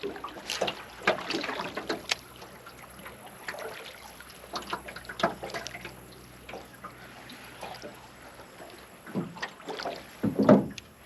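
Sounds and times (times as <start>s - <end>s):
small splashes and knocks: 0.0s - 11.0s
water trickling and lapping: 0.0s - 11.0s.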